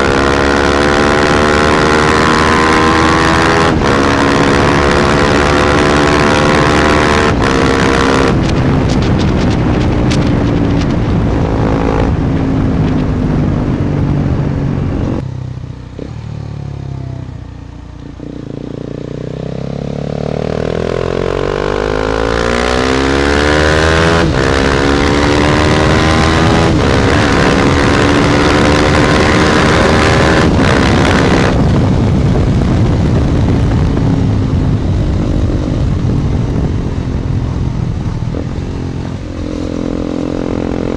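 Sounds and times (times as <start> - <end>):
wind noise on microphone: 0.0 - 16.2, 17.2 - 40.9
motorcycle engine revving: 0.0 - 40.9.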